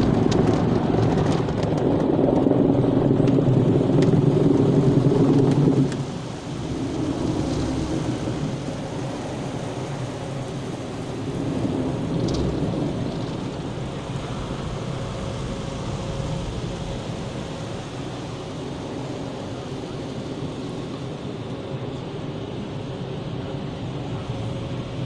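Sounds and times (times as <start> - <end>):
car wash machinery rumble: 0.0 - 25.0
water spraying over car: 0.0 - 25.0.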